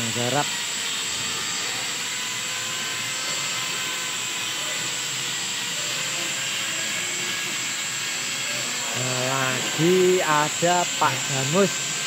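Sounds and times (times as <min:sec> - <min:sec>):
workshop machinery running: 0:00.0 - 0:12.0.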